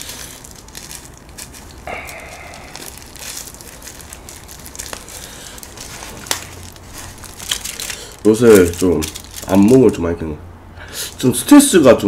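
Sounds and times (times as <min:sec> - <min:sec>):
plastic gloves crinkling: 0:00.0 - 0:10.3, 0:11.0 - 0:12.0.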